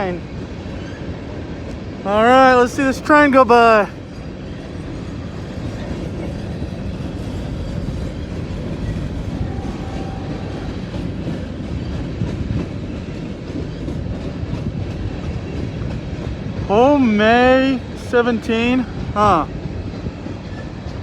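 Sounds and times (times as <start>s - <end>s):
freight train wheels clattering: 0.2s - 21.0s.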